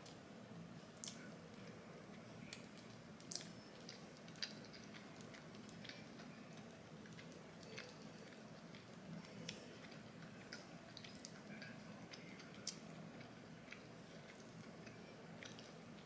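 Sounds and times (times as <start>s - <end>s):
faint low hum: 0.0s - 16.0s
person chewing food: 1.0s - 16.0s.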